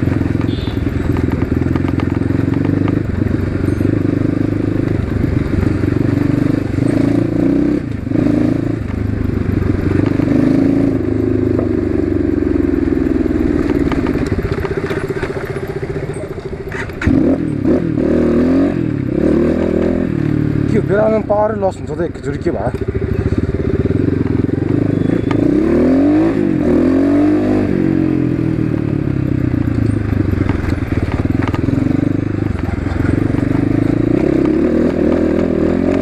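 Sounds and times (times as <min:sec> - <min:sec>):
dirt bike engine running: 0:00.0 - 0:36.0.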